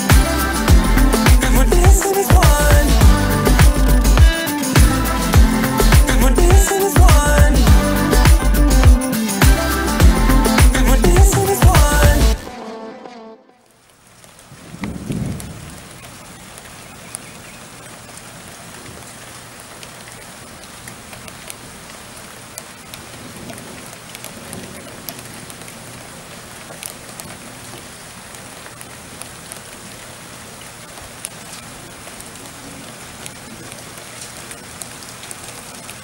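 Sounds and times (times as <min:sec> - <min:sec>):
steady rain hiss: 0:00.0 - 0:12.4, 0:13.6 - 0:36.0.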